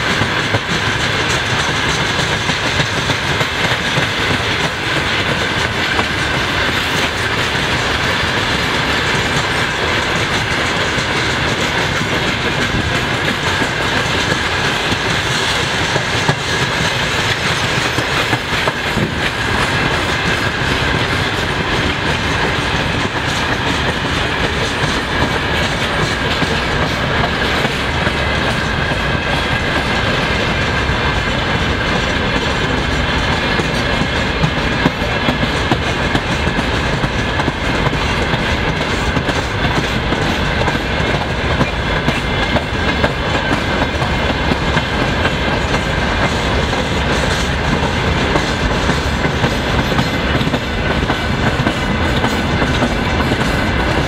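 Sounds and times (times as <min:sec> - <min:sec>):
freight train wheels rumbling: 0:00.0 - 0:54.0
wheels clicking over rail joints: 0:00.0 - 0:54.0.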